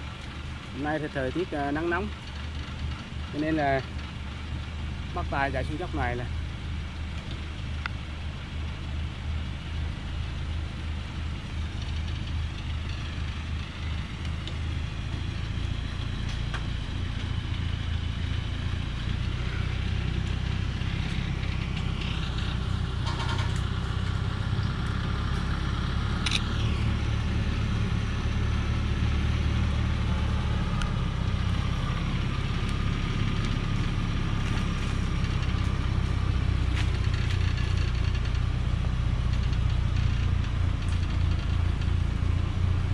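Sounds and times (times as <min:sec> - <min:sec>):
diesel truck engine at low revs: 0:00.0 - 0:42.9.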